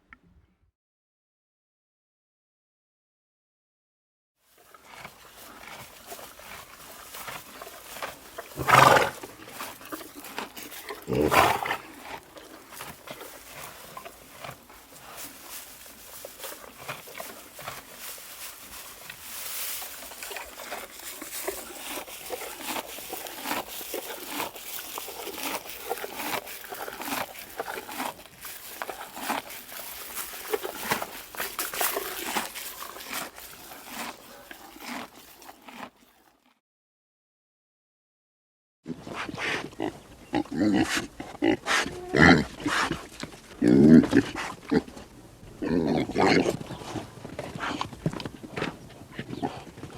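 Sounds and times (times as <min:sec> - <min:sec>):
farm animal calls: 0:04.6 - 0:36.3, 0:39.0 - 0:47.8, 0:48.5 - 0:49.9.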